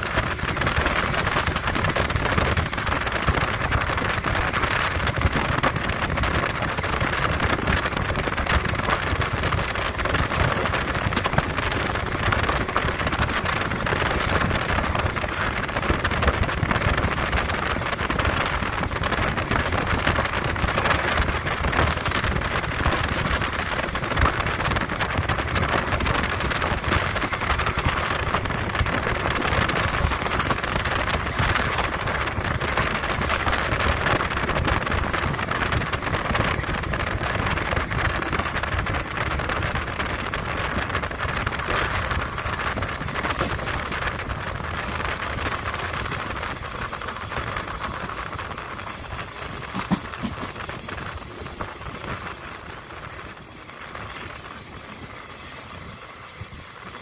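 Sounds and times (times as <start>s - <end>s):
train wheels rumbling on rails: 0.0s - 57.0s
wind rushing: 0.0s - 57.0s.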